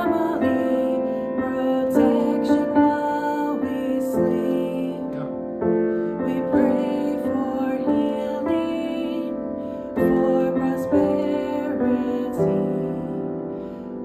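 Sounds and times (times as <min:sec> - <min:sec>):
piano chords: 0:00.0 - 0:14.0
woman singing: 0:00.0 - 0:14.0.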